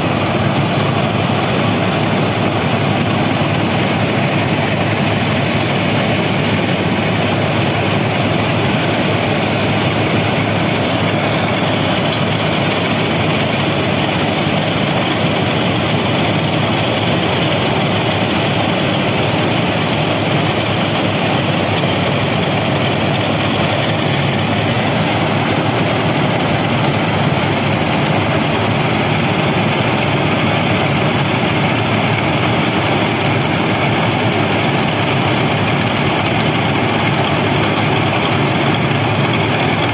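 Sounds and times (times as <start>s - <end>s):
heavy track machine running: 0.0s - 39.9s.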